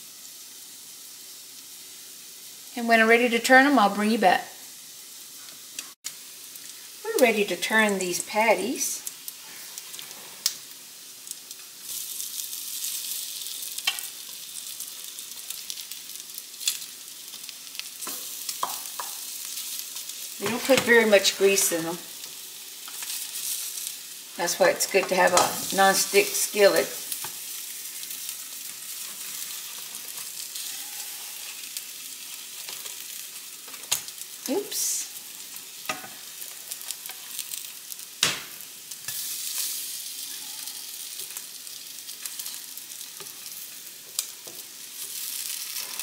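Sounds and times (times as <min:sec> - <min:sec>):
patties sizzling in a skillet: 0:00.0 - 0:46.0
spatula turning patties: 0:05.4 - 0:46.0.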